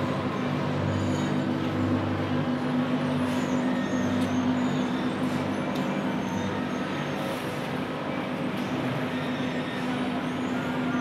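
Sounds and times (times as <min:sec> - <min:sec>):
factory machinery droning: 0:00.0 - 0:11.0.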